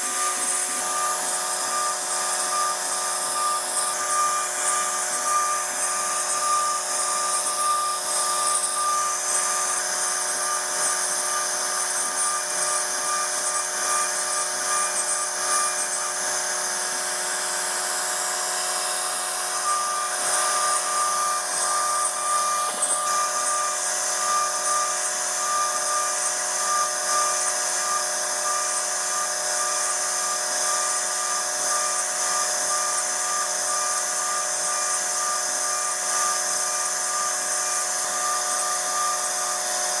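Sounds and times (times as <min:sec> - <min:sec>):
router spindle whine: 0:00.0 - 0:40.0.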